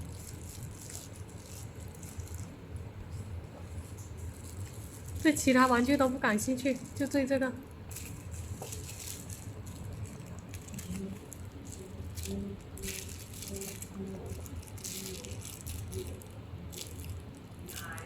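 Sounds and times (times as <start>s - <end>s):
dog toy rattling and rustling: 0.0s - 2.5s, 3.8s - 7.2s, 7.9s - 18.0s.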